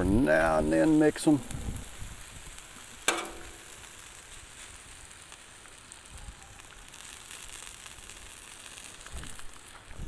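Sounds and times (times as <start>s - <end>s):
faint pops and crackles: 0.0s - 10.0s
food sizzling on a griddle: 0.0s - 10.0s.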